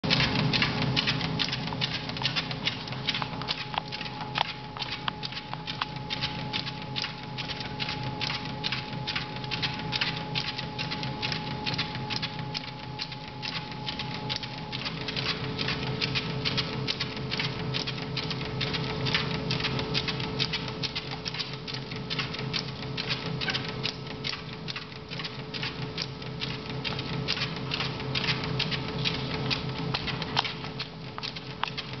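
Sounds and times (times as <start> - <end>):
dog paws pattering on treadmill: 0.0 - 32.0
treadmill running hum: 0.0 - 32.0.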